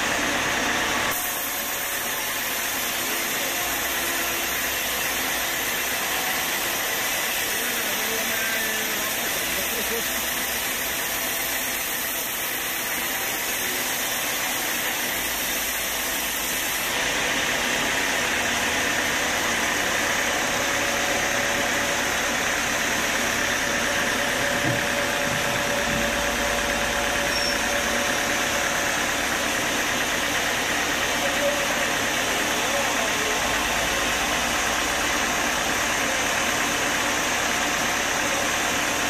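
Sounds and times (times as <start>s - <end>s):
band saw cutting wood: 1.1s - 35.9s.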